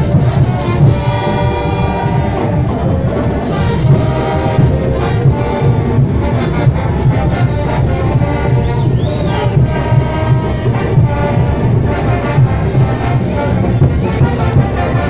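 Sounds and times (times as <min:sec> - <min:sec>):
brass horns: 0:00.0 - 0:15.0
drum and cymbal beat: 0:00.0 - 0:15.0.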